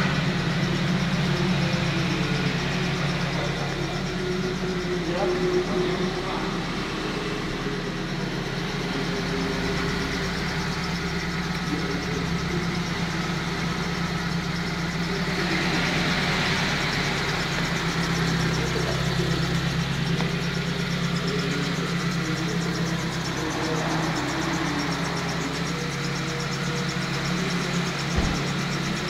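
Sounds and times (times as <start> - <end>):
pickup engine idling: 0.0 - 29.0.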